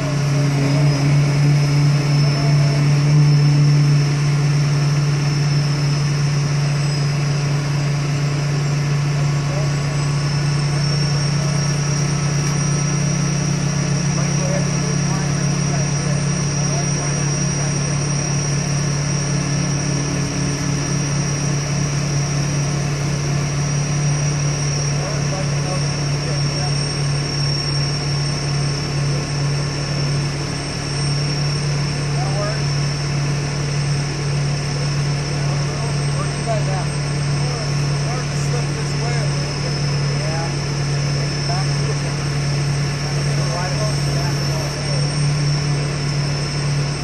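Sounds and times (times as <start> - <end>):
crane engine humming: 0.0 - 47.0
high-pitched whine: 0.0 - 47.0.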